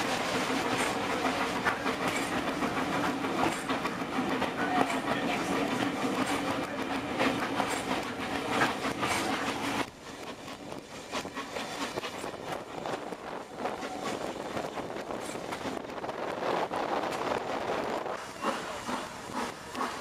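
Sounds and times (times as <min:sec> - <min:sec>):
rail joint clicks: 0:00.0 - 0:20.0
train wheels rumbling on rails: 0:00.0 - 0:20.0.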